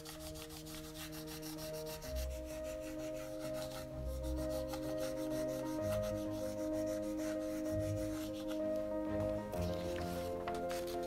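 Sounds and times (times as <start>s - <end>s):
pencil rubbing on paper: 0.0s - 11.0s
soft background music: 0.0s - 11.0s.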